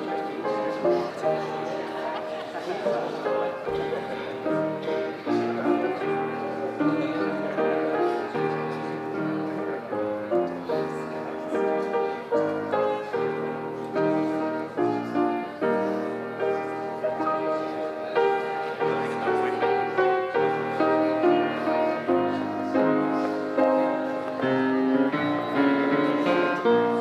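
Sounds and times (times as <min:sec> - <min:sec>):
slow piano music: 0:00.0 - 0:27.0.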